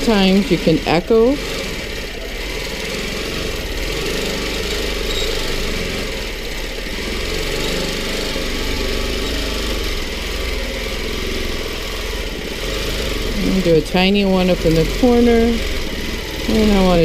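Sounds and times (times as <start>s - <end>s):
motor hum: 0.0s - 17.0s
quilting machine needle stitching: 0.0s - 17.0s.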